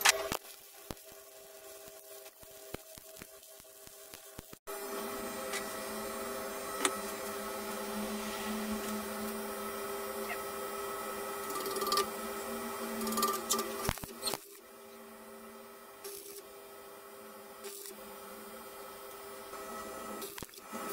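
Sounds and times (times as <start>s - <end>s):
welding machine electrical hum: 0.0s - 20.9s.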